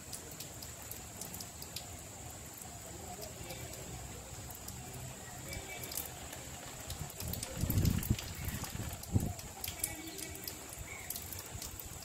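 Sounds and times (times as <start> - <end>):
faint steady hiss: 0.0 - 12.0
raindrop ticks: 0.0 - 12.0.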